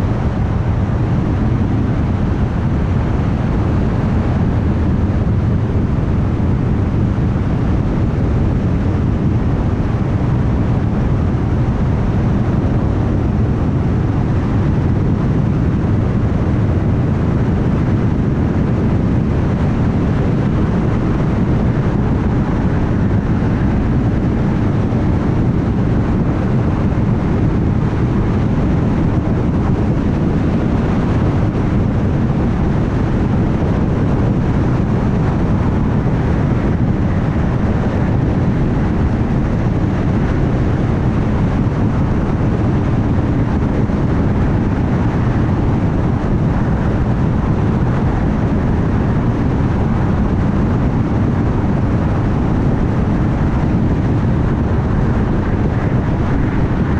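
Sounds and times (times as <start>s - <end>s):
car tyre and road noise: 0.0s - 56.9s.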